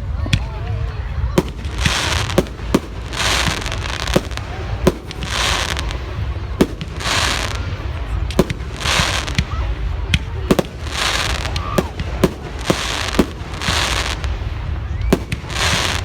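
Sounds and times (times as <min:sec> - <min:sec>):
fireworks bangs: 0:00.0 - 0:16.0
fireworks hissing crackle: 0:00.1 - 0:16.0.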